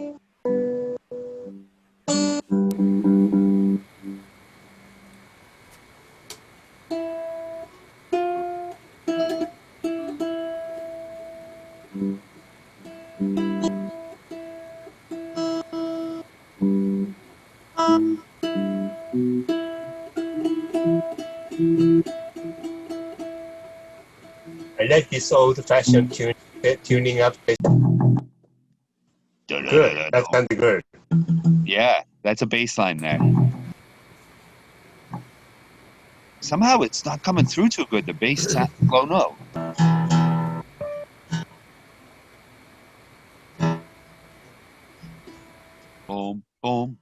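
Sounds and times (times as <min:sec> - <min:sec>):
plucked string instrument tuning: 0:00.0 - 0:28.2, 0:33.0 - 0:46.1.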